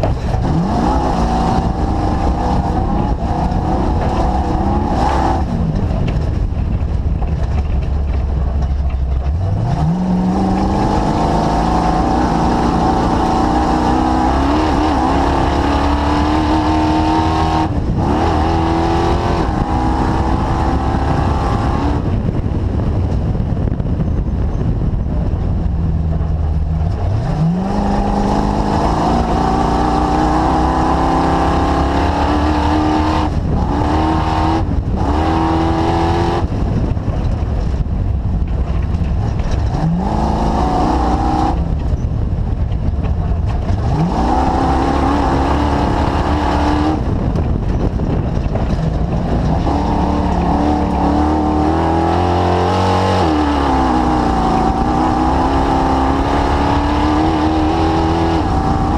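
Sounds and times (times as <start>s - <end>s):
engine revving: 0.0s - 23.2s, 24.8s - 37.8s, 38.5s - 42.0s, 42.6s - 58.9s
driving noise: 0.0s - 58.9s.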